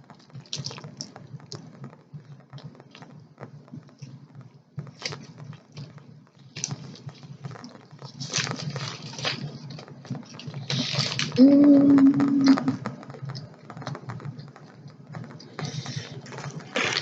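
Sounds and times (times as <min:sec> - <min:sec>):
chewing crunchy food: 0:00.0 - 0:03.1, 0:04.8 - 0:17.0
wet clicks and crunches: 0:00.0 - 0:17.0.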